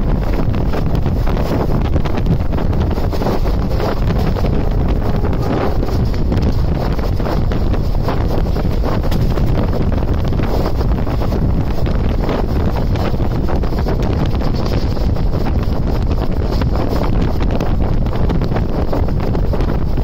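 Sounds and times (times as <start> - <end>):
fast train rumbling: 0.0 - 20.0
wind on microphone: 0.0 - 20.0.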